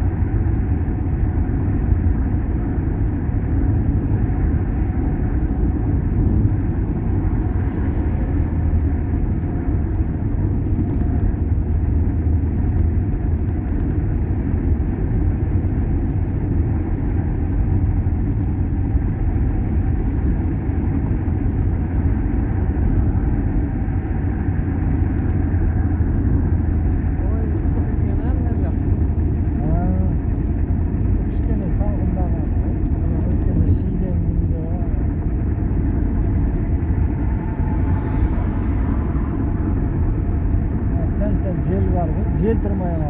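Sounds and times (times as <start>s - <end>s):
car driving on road: 0.0s - 43.0s.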